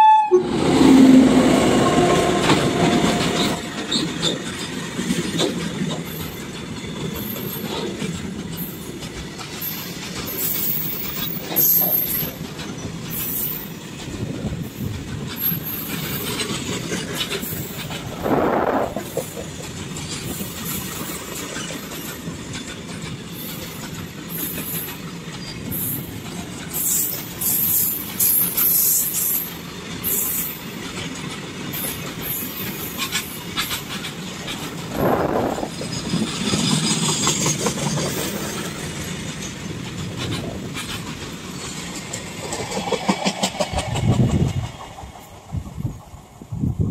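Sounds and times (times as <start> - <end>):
train wheels clattering: 0.5 - 46.4.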